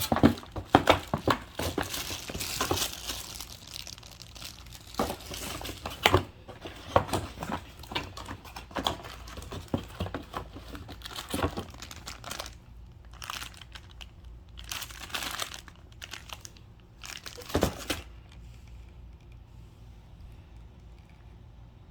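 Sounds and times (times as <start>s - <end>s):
packaging crinkling and rustling: 0.0s - 18.4s.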